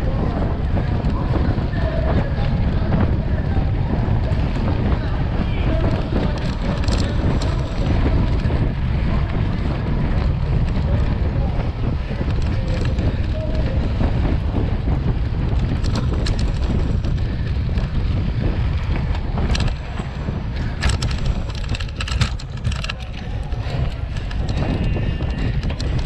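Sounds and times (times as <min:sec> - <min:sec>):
bike clicks and rattles: 0:00.0 - 0:26.0
tyres rolling on dirt: 0:00.0 - 0:26.0
wind buffeting microphone: 0:00.0 - 0:26.0.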